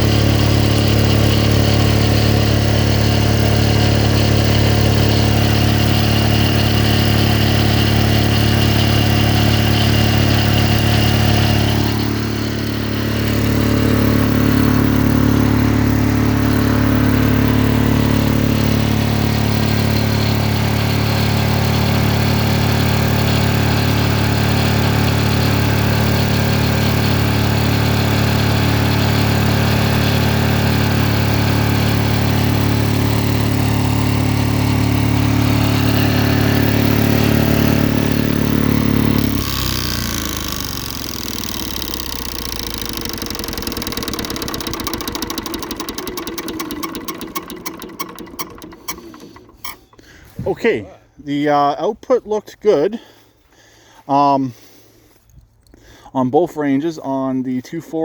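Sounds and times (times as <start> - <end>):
diesel generator engine running: 0.0 - 52.0, 52.9 - 57.2.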